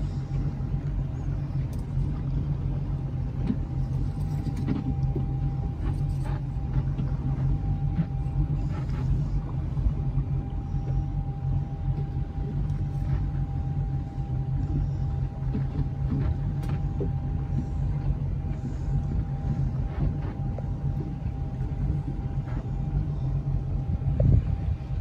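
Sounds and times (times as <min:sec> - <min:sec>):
boat engine deep rumble: 0:00.0 - 0:25.0.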